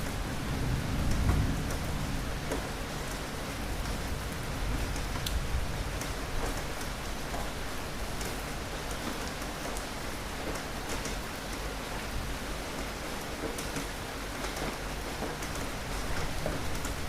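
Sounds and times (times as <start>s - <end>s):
raindrops ticking close by: 0.0s - 17.0s.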